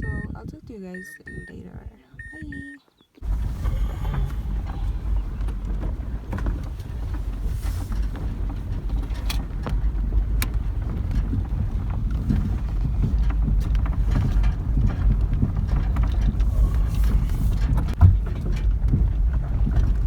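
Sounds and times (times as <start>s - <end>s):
vehicle interior rumble: 0.0s - 20.0s
small rattles and clicks: 3.2s - 20.0s.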